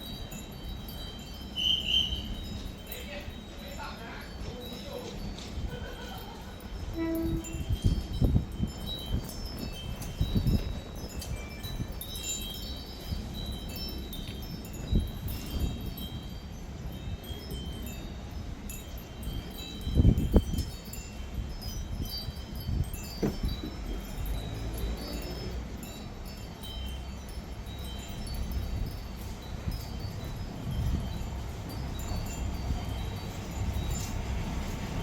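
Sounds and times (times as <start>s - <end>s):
high tinkling chime tones: 0.0s - 35.0s.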